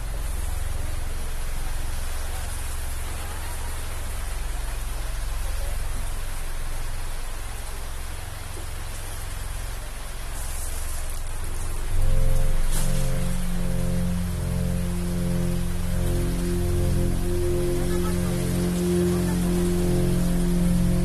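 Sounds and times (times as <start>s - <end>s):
heavy rain on canvas awnings: 0.0s - 21.0s.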